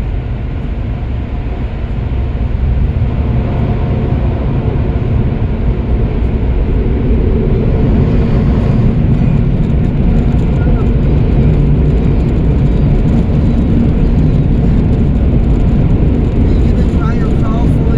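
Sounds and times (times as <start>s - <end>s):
car wash machinery rumble: 0.0s - 17.9s.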